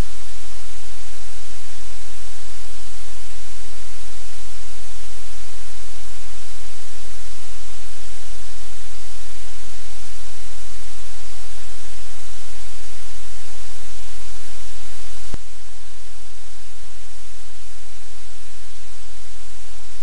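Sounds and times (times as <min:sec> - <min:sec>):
low electrical hum: 0:00.0 - 0:20.0
static hiss: 0:00.0 - 0:20.0.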